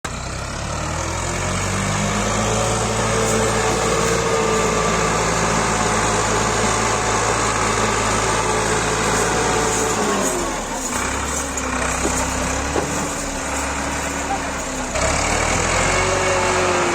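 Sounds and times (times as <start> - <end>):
tractor diesel engine straining: 0.0 - 16.9.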